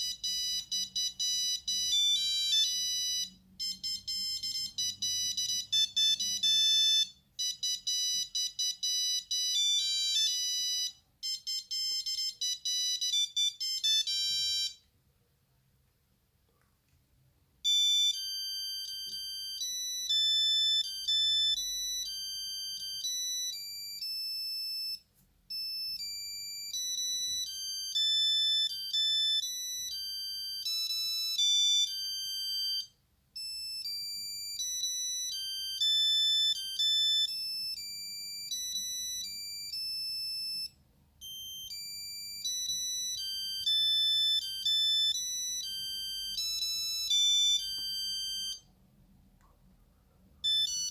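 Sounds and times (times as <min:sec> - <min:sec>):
beeping monophonic ringtone: 0:00.0 - 0:14.8, 0:17.6 - 0:48.8, 0:50.4 - 0:50.9.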